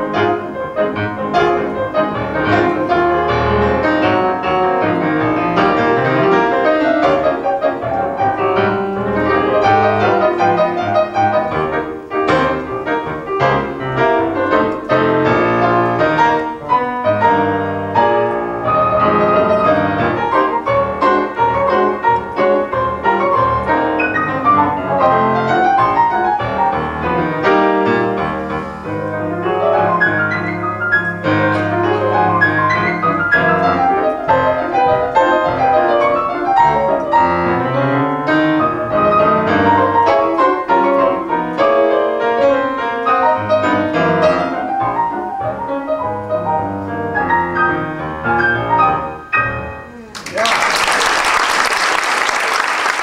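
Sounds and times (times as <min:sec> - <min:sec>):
solo piano playing popular song: 0:00.0 - 0:50.1.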